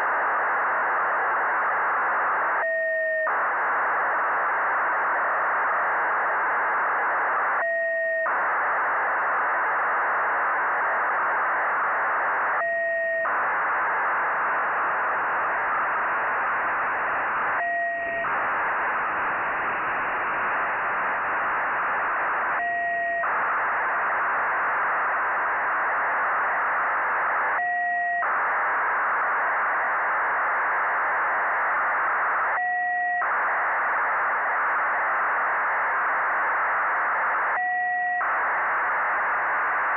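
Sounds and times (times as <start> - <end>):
continuous data hiss: 0.0 - 39.9.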